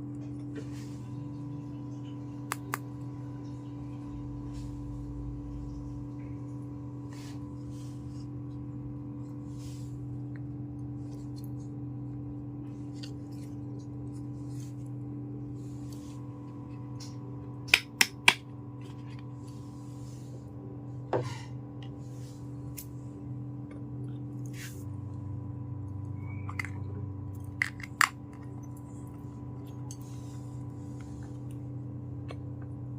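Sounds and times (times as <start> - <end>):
electrical hum: 0.0 - 32.9.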